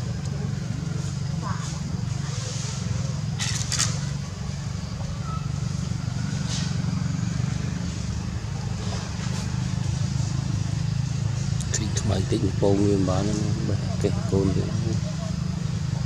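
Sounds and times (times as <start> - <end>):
engine low rumble: 0.0 - 16.0.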